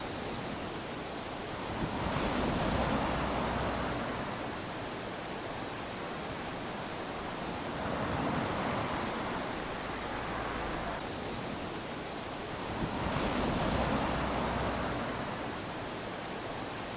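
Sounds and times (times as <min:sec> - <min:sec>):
small waves lapping on shore: 0:00.0 - 0:16.9.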